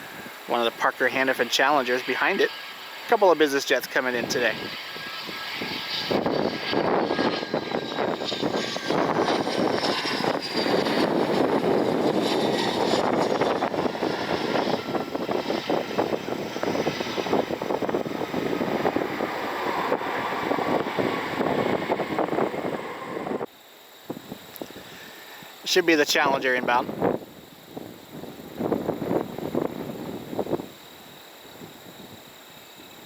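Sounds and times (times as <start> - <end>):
jet engine roar with whine: 0.0 - 33.0.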